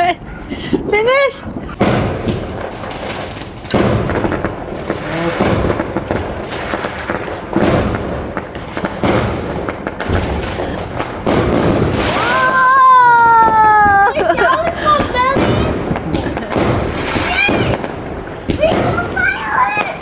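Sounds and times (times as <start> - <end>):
fireworks bangs: 0.0 - 20.0
fireworks crackling and rumbling: 0.0 - 20.0.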